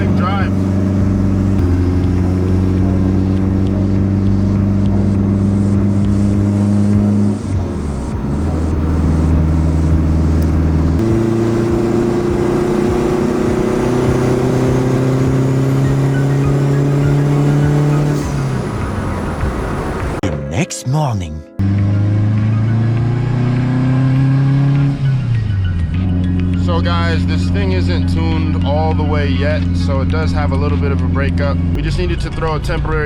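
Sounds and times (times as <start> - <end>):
car engine running while driving: 0.0 - 20.2, 21.6 - 31.8.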